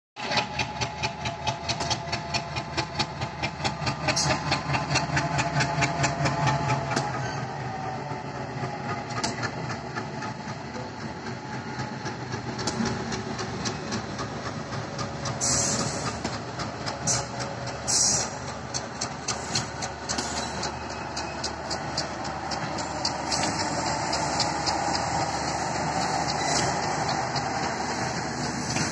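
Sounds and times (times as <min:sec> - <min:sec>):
wheels clicking over rail joints: 0:00.2 - 0:07.6, 0:08.5 - 0:28.9
diesel locomotive engine rumbling: 0:00.2 - 0:28.9.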